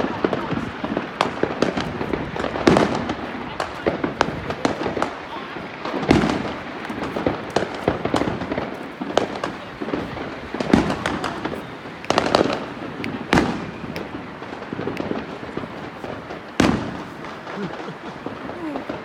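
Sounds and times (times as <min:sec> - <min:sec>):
fireworks popping and banging: 0:00.0 - 0:19.0.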